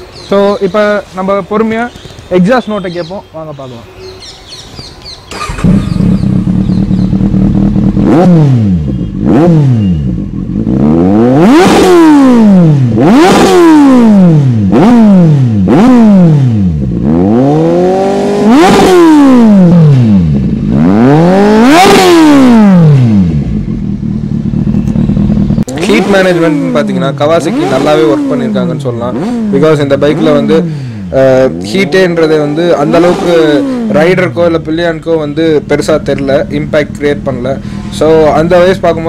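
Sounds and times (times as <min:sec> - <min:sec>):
motorcycle engine idling and revving: 0:04.5 - 0:39.0.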